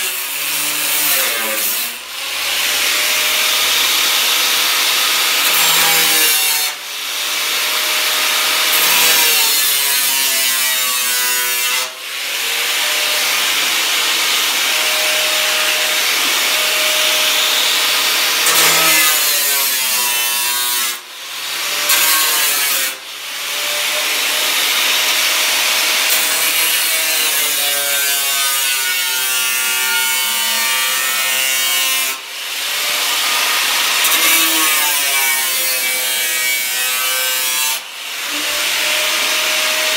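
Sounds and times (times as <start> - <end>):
angle grinder cutting sheet steel: 0.0 - 39.9.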